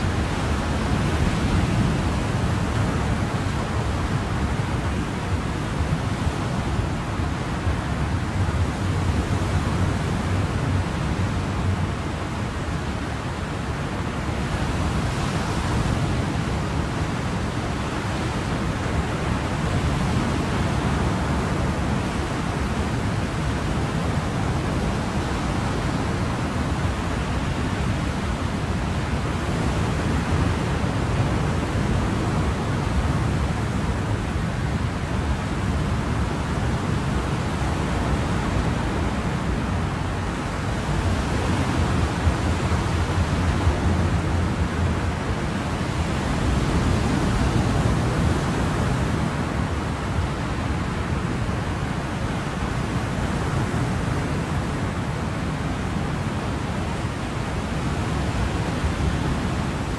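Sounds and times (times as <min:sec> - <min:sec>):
ocean waves and surf: 0:00.0 - 0:59.9.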